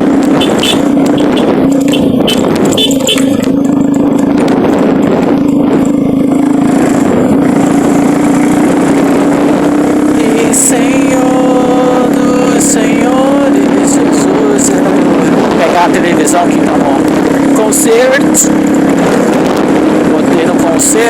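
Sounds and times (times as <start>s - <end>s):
loud travel noise: 0.0s - 21.0s
vehicle engine hum: 0.0s - 21.0s.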